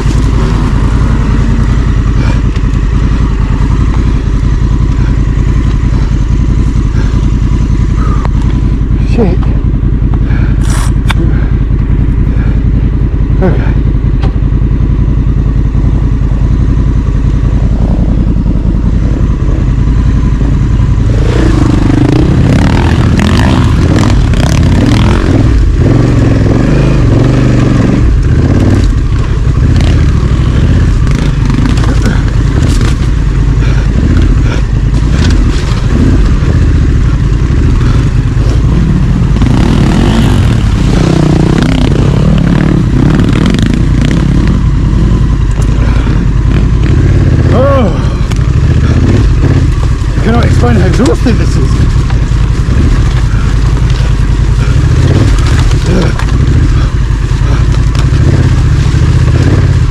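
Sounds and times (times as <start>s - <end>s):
knocks and clatter over rough ground: 0.0s - 59.9s
motorcycle engine running: 0.0s - 59.9s.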